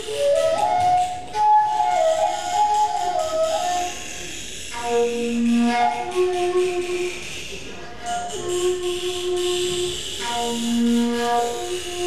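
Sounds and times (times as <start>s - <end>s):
bamboo flute playing long notes: 0.0s - 12.0s.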